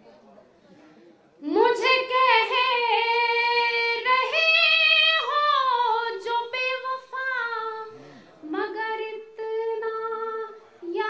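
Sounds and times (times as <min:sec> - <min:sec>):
woman singing unaccompanied: 0:01.4 - 0:11.0.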